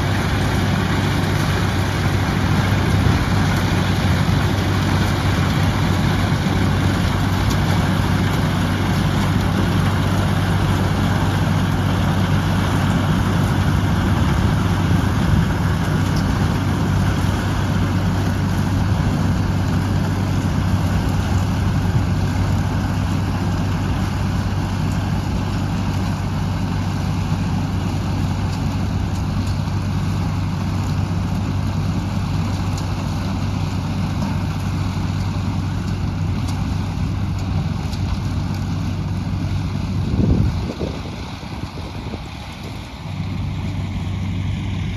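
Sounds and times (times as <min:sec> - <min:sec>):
farm machinery engine running: 0:00.0 - 0:44.9.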